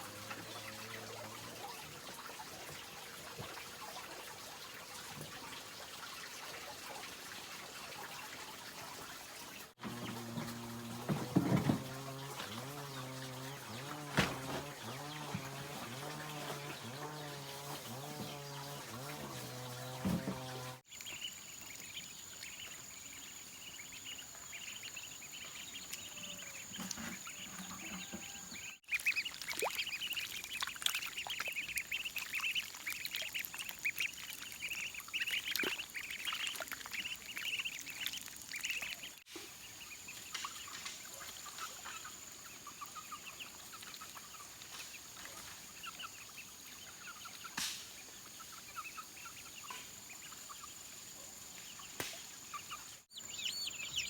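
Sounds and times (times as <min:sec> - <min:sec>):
poultry peeping and chirping: 0:00.0 - 0:54.0.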